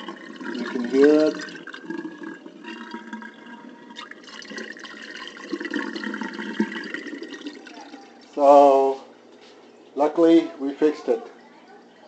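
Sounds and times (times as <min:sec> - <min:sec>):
dishwasher drain pump running: 0:00.0 - 0:12.0.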